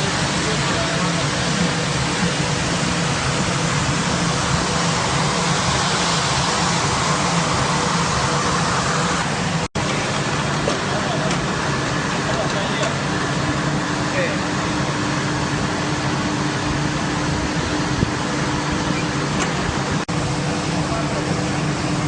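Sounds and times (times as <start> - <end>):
low motor hum: 0.0 - 22.0
washing machine rushing noise: 0.0 - 22.0.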